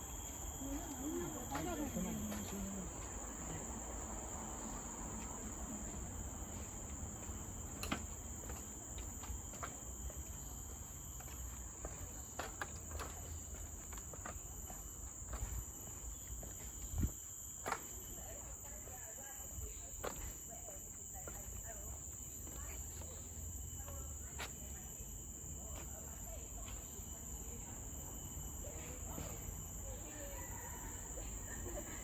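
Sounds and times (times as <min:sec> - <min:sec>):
forest insects chorus: 0:00.0 - 0:32.0.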